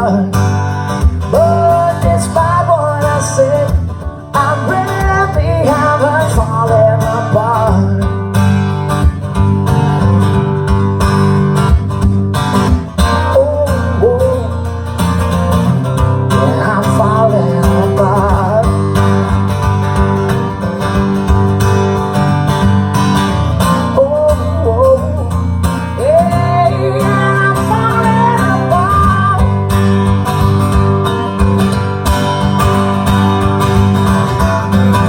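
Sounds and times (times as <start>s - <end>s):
acoustic guitar: 0.0s - 35.0s
band playing song: 1.0s - 35.0s.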